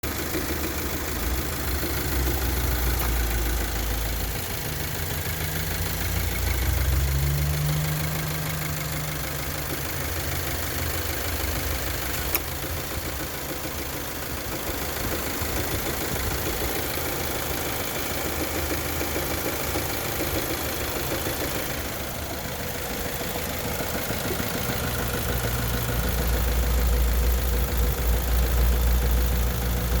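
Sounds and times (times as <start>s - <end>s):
engine idling with knock: 0.0s - 30.0s.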